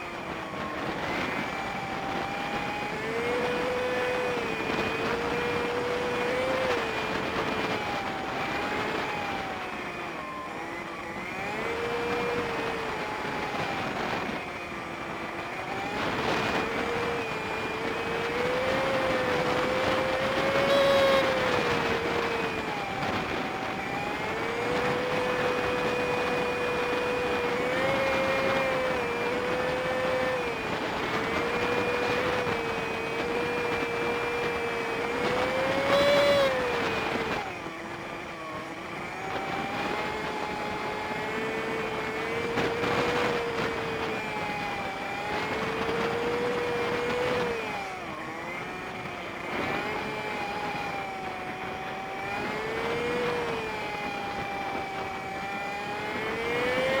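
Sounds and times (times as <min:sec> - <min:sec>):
small motorbike engine running: 0:00.0 - 0:57.0.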